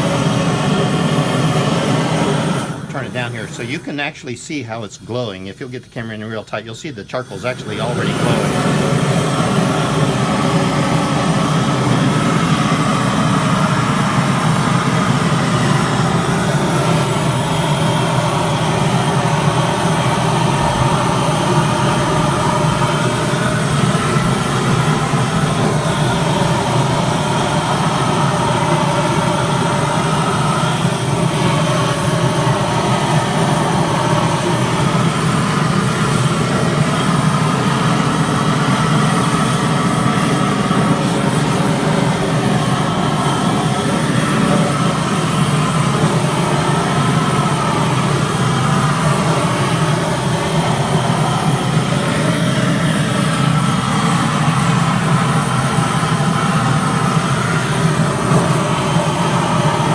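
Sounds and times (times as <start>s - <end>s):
propane torch flame roaring: 0.0s - 59.9s.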